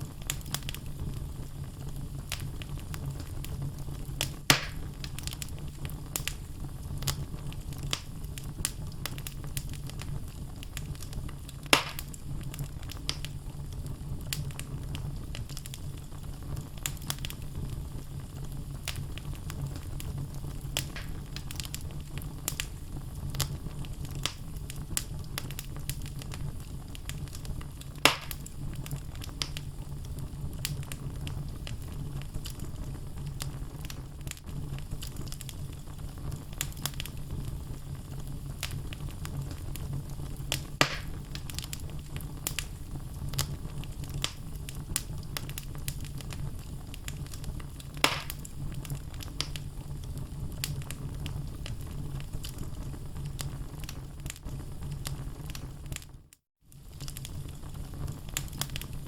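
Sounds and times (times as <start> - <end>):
fire crackling and popping: 0.0 - 59.0
logs burning in fireplace: 0.0 - 59.0.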